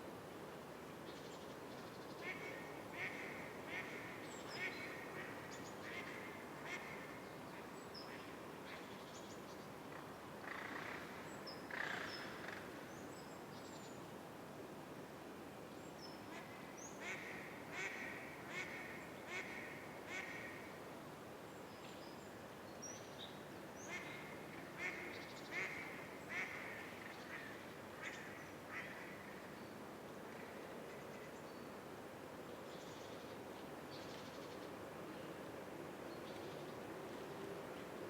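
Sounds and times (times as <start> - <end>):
outdoor background hiss: 0.0 - 38.0.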